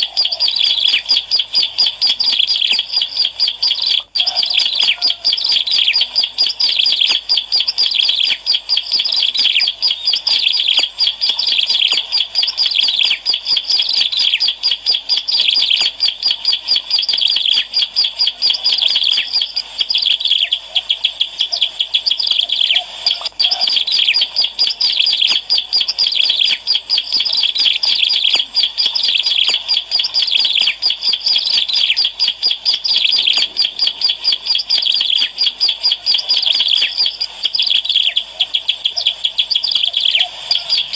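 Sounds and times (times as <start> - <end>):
small bird chirping and trilling: 0.0 - 40.9.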